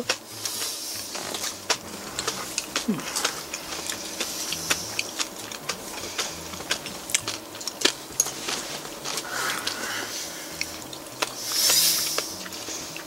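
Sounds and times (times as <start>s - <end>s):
person chewing crisp crackers: 0.0s - 13.0s.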